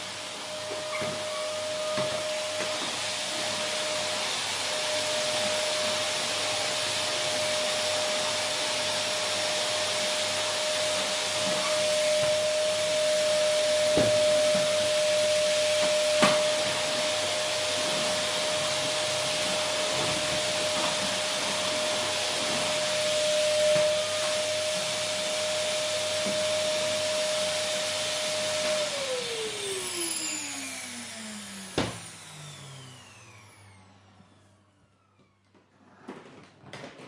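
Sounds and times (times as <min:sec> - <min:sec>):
vacuum cleaner running: 0:00.0 - 0:35.8.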